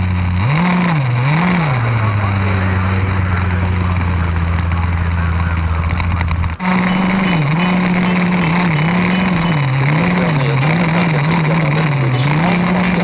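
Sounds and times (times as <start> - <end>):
small two-stroke engine revving: 0.0 - 13.0.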